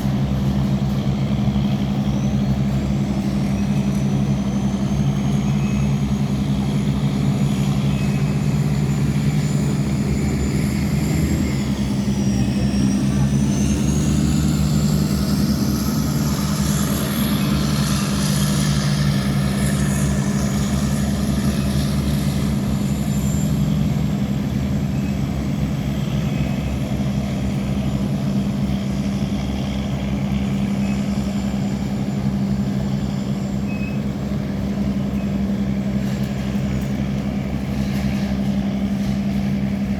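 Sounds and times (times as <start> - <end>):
boat engines humming: 0.0 - 39.9
high whine: 0.0 - 39.9.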